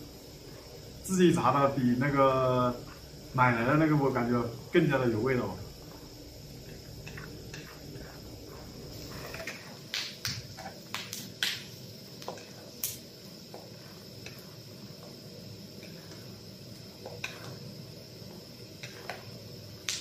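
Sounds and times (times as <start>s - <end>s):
peanuts deep-frying in oil: 0.0s - 20.0s.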